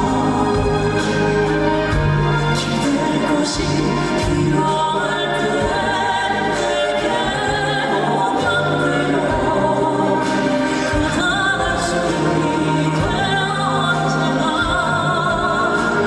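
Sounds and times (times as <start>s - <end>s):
instrumental accompaniment: 0.0s - 16.0s
male vocal group singing: 0.0s - 16.0s.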